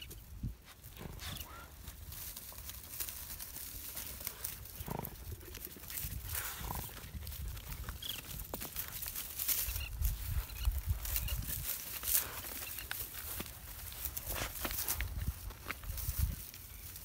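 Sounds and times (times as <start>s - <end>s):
crunching and rustling earth: 0.0s - 17.0s.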